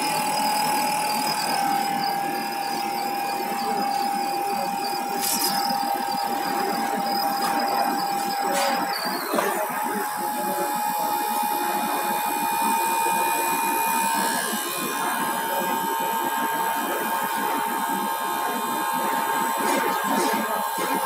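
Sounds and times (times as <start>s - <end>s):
test bench machine noise: 0.0s - 21.0s.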